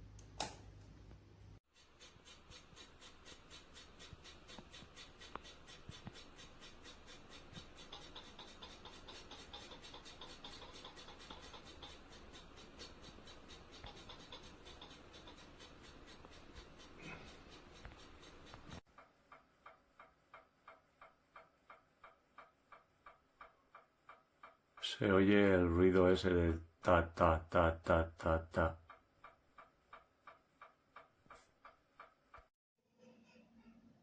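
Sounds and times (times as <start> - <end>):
faint even ticking: 2.5 - 32.5.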